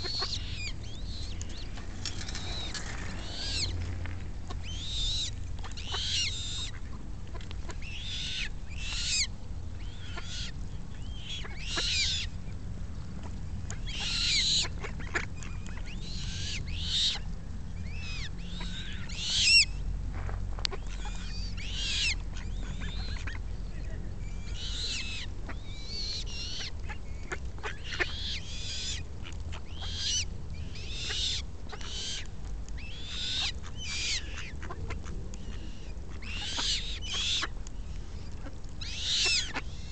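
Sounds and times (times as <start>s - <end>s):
young coots calling: 0.0s - 12.4s, 13.2s - 19.9s, 20.6s - 39.9s
low steady rumble: 0.0s - 39.9s.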